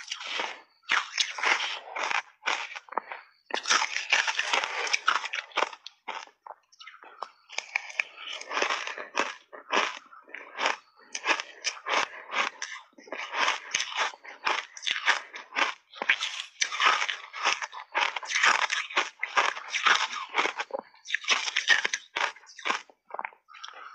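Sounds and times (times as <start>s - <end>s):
crunching and chewing ice: 0.0s - 23.9s.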